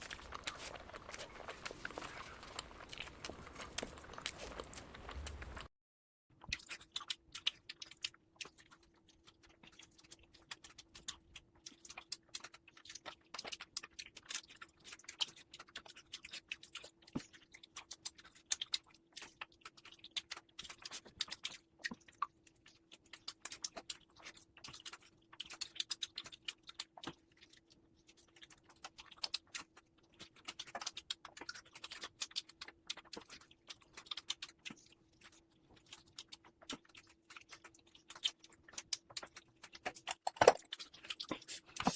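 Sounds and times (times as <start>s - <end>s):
wet chewing and mouth clicks: 0.0s - 5.7s, 6.4s - 41.9s.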